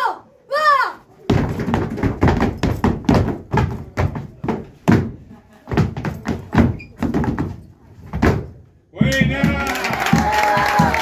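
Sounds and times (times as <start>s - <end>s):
shoes stamping on wooden floor: 1.3s - 11.0s.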